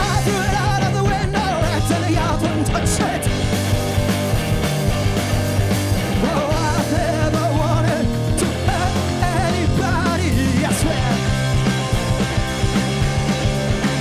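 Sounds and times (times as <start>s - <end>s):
bass line: 0.0s - 14.0s
drums: 0.0s - 14.0s
rock band playing: 0.0s - 14.0s.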